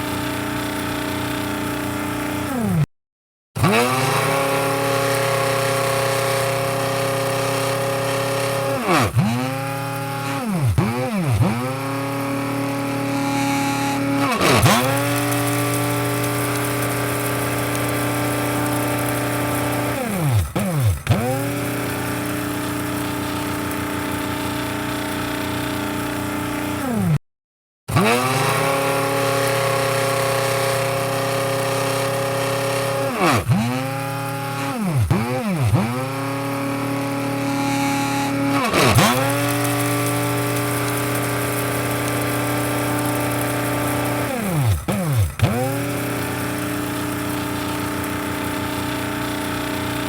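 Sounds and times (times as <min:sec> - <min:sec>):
electric coffee grinder motor: 0:00.0 - 0:02.9, 0:03.6 - 0:27.2, 0:27.9 - 0:50.0.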